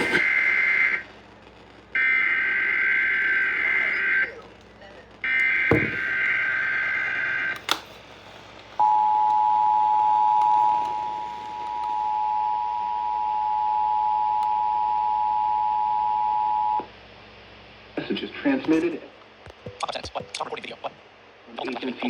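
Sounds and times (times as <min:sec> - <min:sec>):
faint radio hiss: 0:00.0 - 0:13.1, 0:16.9 - 0:22.0.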